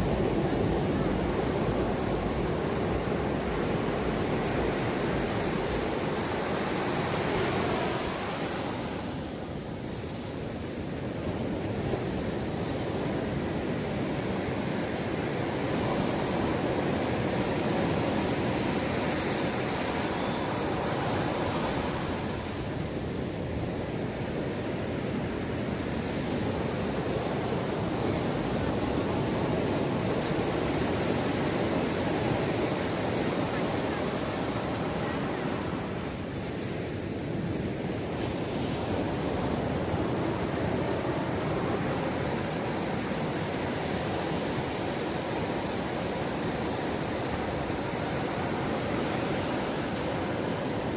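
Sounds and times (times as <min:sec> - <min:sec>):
ocean waves breaking on beach: 0:00.0 - 0:50.9.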